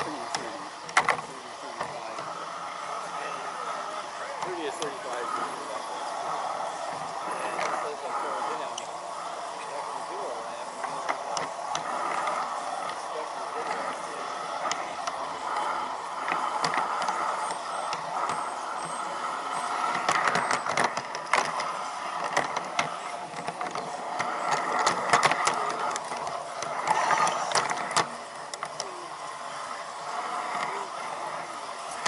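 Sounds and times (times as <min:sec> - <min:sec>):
model train rolling on track: 0:00.0 - 0:32.0
wheels clicking over rail joints: 0:00.0 - 0:32.0.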